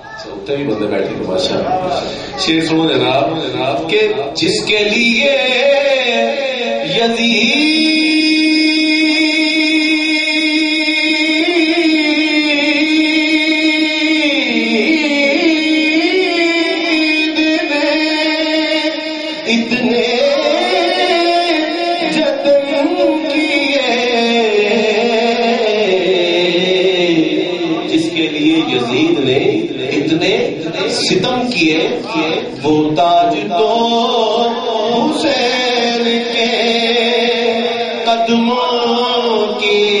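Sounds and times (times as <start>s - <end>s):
man singing into microphone: 2.3s - 40.0s.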